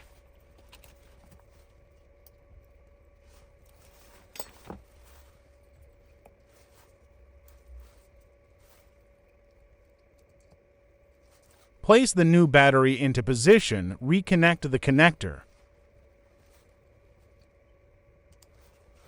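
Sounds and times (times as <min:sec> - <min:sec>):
thin steady hum: 0:00.0 - 0:19.0.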